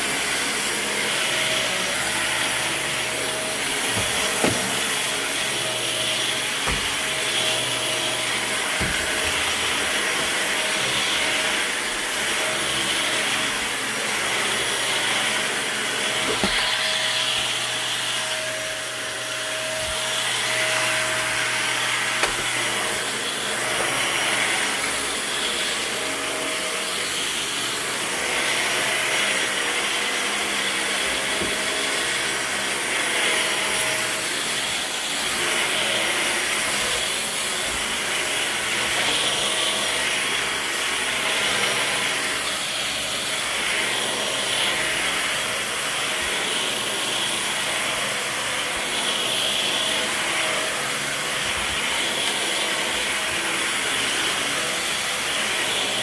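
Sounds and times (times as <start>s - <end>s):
vacuum cleaner on carpet: 0.0s - 56.0s.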